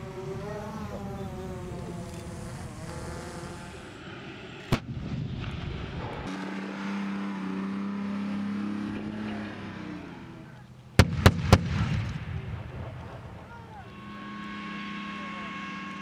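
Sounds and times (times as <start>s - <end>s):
armoured vehicle engine drone: 0.0s - 16.0s
tank engine driving: 0.0s - 16.0s.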